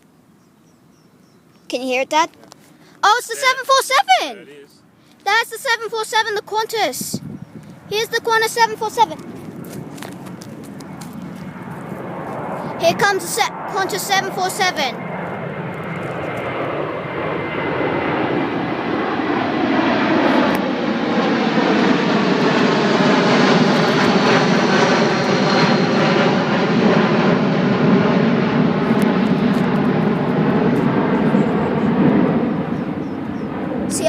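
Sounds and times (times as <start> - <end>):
faint engine whine: 0.0 - 34.0
jet engine roar: 2.0 - 34.0.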